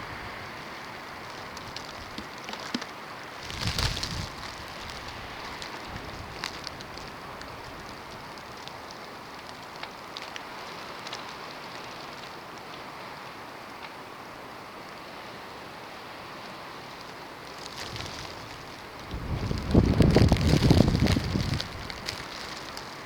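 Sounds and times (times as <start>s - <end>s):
hiss of wind-driven snow: 0.0s - 2.2s, 2.9s - 23.0s.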